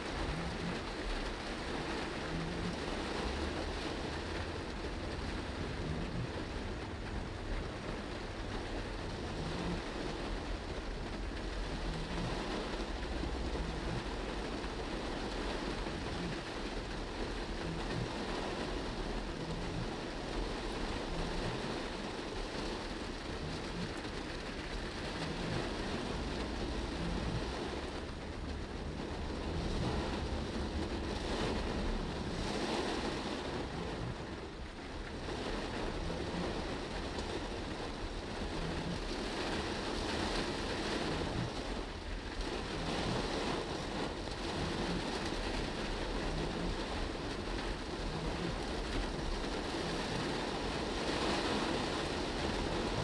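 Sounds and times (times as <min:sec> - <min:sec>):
car tyres on wet road: 0:00.0 - 0:53.0
rain hissing on car roof: 0:00.0 - 0:53.0.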